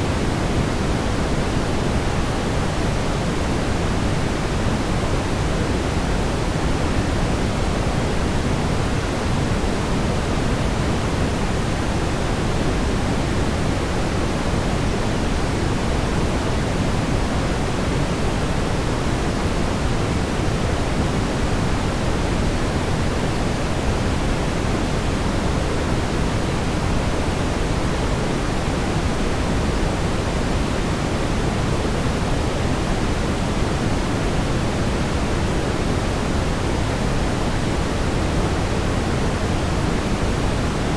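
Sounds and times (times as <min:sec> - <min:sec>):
brown noise rumbling hiss: 0:00.0 - 0:40.9.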